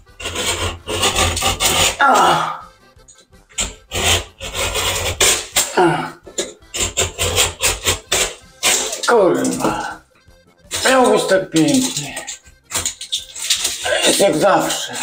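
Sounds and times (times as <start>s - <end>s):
utility knife scraping plasterboard: 0.0s - 2.4s, 3.5s - 10.0s, 10.7s - 15.0s.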